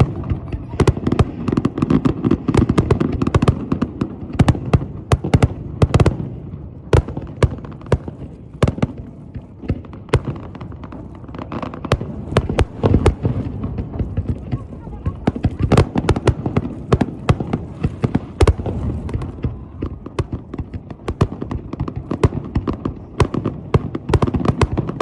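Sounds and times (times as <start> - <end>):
fireworks bangs and cracks: 0.0 - 25.0.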